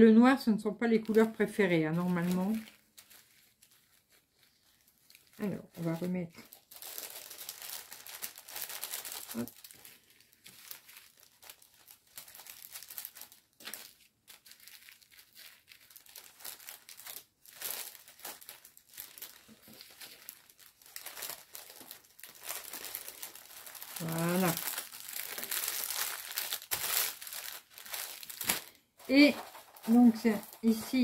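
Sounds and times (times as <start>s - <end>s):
plastic packaging crinkling: 0.9s - 31.0s.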